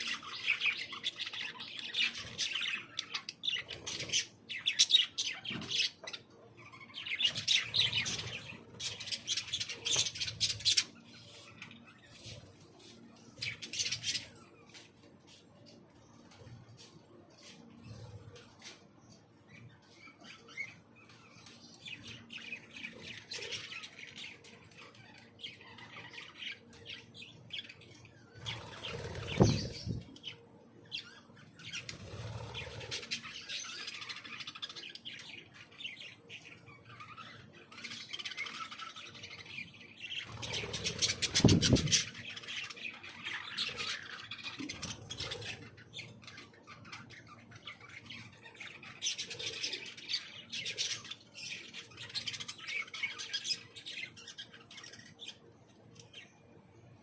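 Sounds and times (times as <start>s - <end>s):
birds chirping and squawking: 0.0s - 57.0s.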